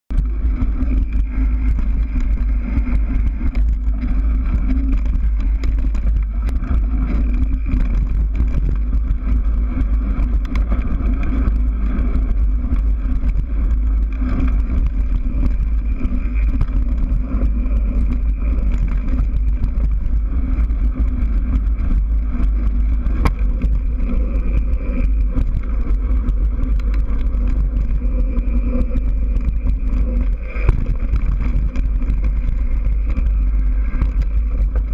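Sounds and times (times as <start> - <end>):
bike knocks and rattles: 0.1 - 34.9
tyres rolling on dirt: 0.1 - 34.9
wind buffeting microphone: 0.1 - 34.9.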